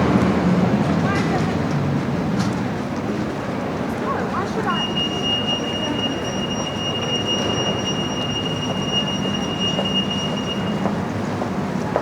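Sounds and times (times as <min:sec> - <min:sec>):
city street traffic hum: 0:00.0 - 0:12.0.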